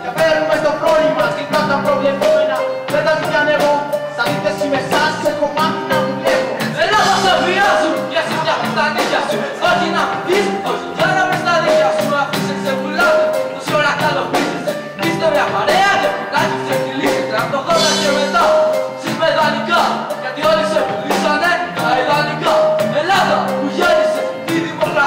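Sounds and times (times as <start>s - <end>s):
drum kit beat: 0.0s - 25.0s
electric bass: 0.0s - 25.0s.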